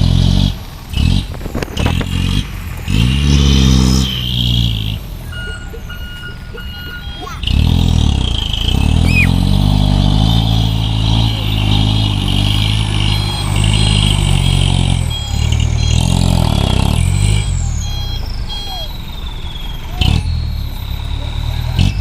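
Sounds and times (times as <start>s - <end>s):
truck engine under load: 0.0s - 22.0s.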